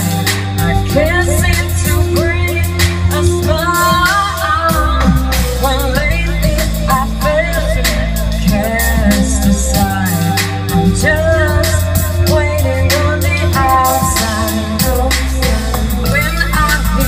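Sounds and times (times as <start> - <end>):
drums: 0.0 - 17.0
low bass notes: 0.0 - 17.0
person singing: 0.0 - 17.0.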